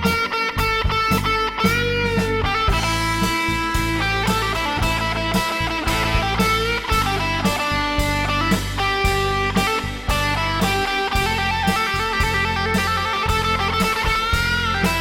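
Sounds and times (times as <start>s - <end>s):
bass guitar: 0.0s - 15.0s
electric guitar lead: 0.0s - 15.0s
steady drum beat: 0.0s - 15.0s.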